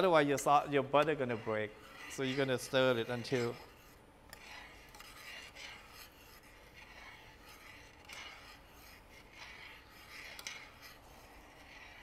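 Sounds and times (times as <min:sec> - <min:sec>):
metal ladle scraping a pot: 0:00.0 - 0:12.0.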